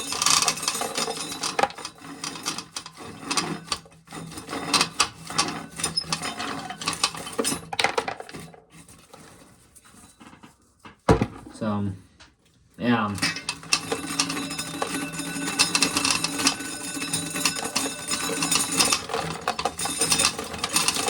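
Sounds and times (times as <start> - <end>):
corn kernels scraping and rattling: 0.0 - 10.3, 12.9 - 21.0.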